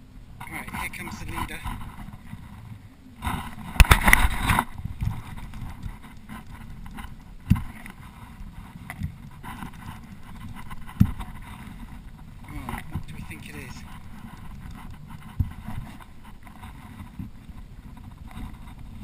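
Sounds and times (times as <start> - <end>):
water lapping around kayak: 0.0 - 19.0
wind: 0.0 - 19.0.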